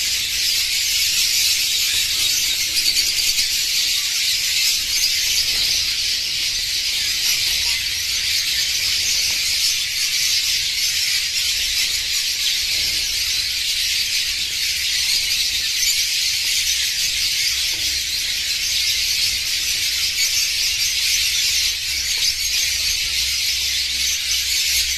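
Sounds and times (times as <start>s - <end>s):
flock of finches chirping: 0.0s - 24.9s.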